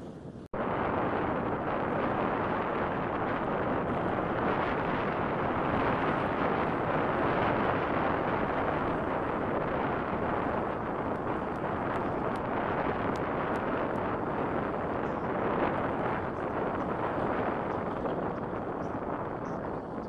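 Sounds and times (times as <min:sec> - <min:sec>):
wind buffeting microphone: 0:00.0 - 0:20.0
bike tyres rolling on dirt: 0:00.6 - 0:20.0.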